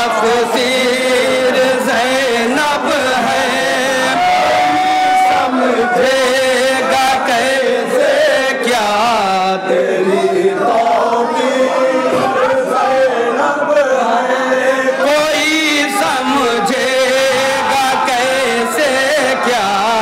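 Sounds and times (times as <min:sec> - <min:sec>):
men chanting in chorus: 0:00.0 - 0:20.0.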